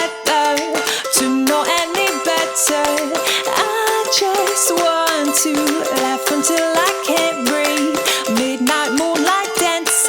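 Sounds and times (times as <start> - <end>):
upbeat ukulele tune with beat: 0.0 - 10.0.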